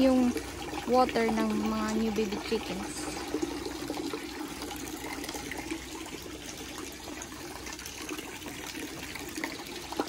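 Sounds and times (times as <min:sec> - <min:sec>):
water running and splashing: 0:00.0 - 0:10.0.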